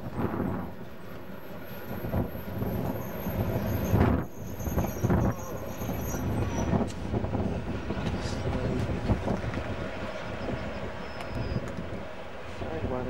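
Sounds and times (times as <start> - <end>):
trains rumbling past: 0.0 - 13.0
wind buffeting microphone: 0.0 - 13.0.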